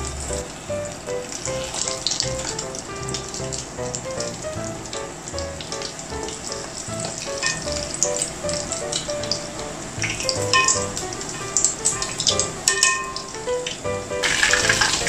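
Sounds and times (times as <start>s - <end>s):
chicken deep-frying in oil: 0.0s - 15.0s
light background music: 0.0s - 15.0s.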